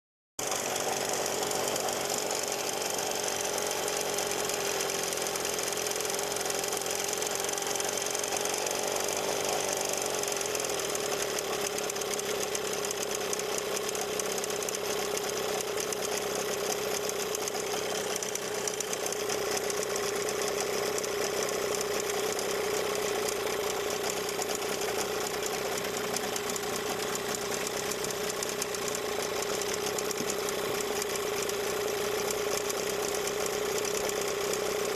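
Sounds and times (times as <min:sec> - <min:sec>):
outboard motor running: 0:00.4 - 0:34.9.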